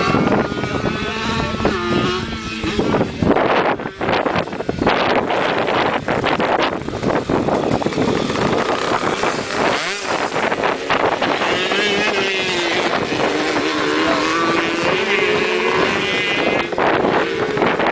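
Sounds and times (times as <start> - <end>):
motorbike engine revving: 0.0 - 17.9
wind buffeting microphone: 0.0 - 17.9.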